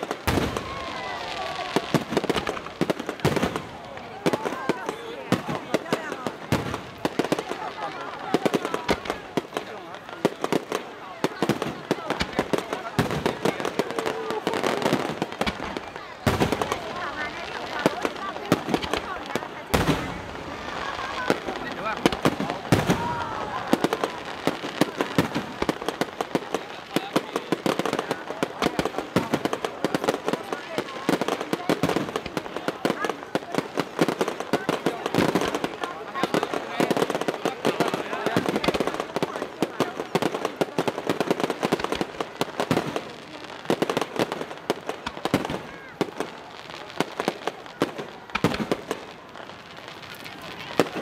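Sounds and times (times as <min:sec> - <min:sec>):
fireworks bangs and cracks: 0:00.0 - 0:51.0.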